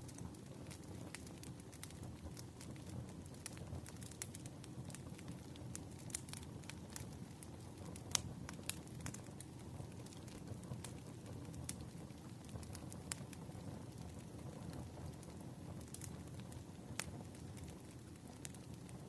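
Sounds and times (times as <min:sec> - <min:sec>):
firewood crackling and popping: 0:00.0 - 0:19.0
low fire rumble: 0:00.0 - 0:19.0.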